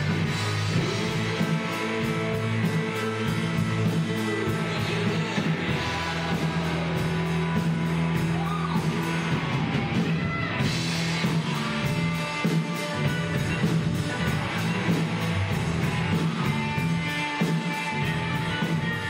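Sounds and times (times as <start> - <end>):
bass guitar: 0.0 - 19.0
electric guitar: 0.0 - 19.0
steady drum beat: 0.0 - 19.0.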